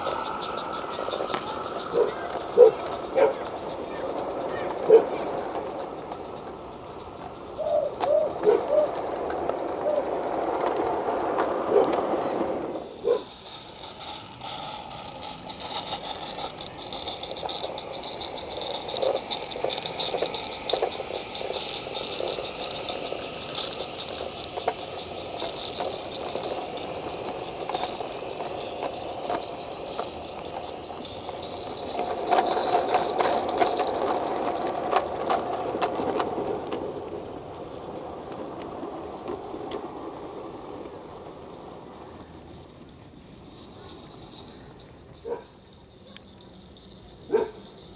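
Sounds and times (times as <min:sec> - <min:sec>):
long soft hiss: 0:00.0 - 0:08.2, 0:09.8 - 0:47.9
model train wagons rattling: 0:00.0 - 0:47.9.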